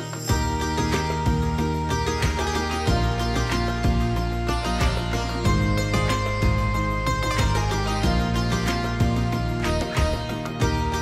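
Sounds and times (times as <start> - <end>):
plucked string instrument: 0.0 - 11.0
sustained low bass: 0.3 - 11.0.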